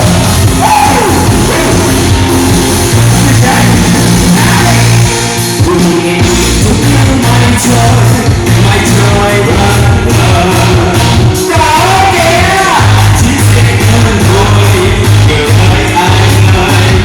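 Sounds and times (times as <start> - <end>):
loud band music: 0.0 - 17.0
person singing: 0.0 - 17.0.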